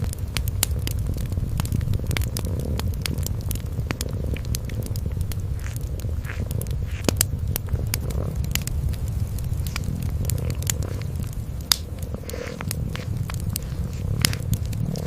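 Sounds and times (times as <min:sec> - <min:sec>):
kitten purring: 0:00.0 - 0:15.0
wood fire crackling: 0:00.0 - 0:15.0.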